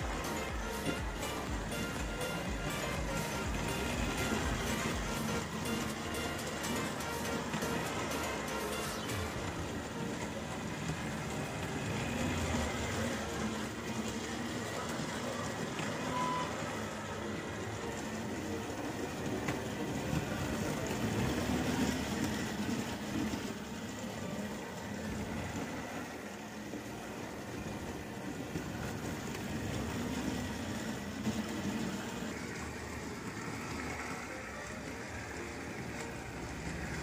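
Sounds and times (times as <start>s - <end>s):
toy train motor whirring: 0.0s - 37.0s
toy train wheels rattling: 0.0s - 37.0s.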